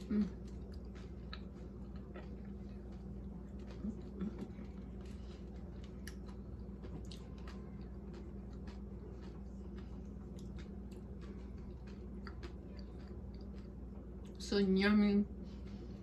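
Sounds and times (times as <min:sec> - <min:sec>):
person chewing: 0:00.0 - 0:14.4
steady low hum: 0:00.0 - 0:16.0.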